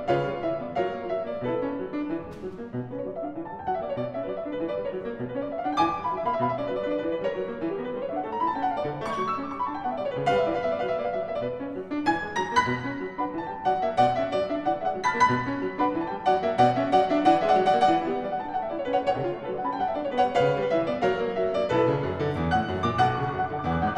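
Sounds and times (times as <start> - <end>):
piano arpeggios over bass notes: 0.0 - 23.9.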